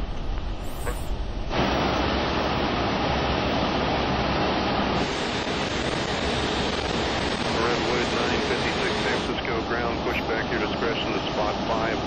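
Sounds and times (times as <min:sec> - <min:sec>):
jet cockpit rushing noise: 0:00.0 - 0:12.0.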